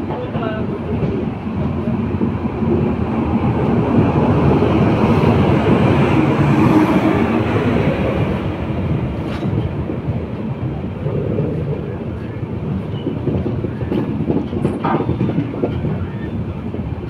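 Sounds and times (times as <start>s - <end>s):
electric locomotive passing: 0.0s - 17.0s
train coach rumble: 0.0s - 17.0s.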